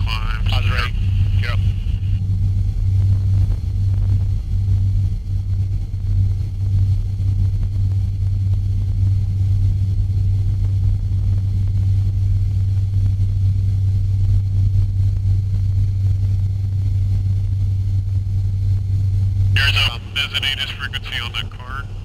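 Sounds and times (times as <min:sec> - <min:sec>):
turboprop engines droning: 0:00.0 - 0:22.0.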